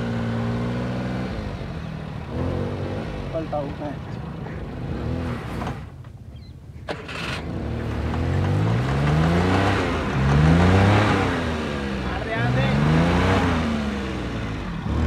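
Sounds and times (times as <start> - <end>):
car engine revving: 0.0 - 6.0, 6.8 - 15.0.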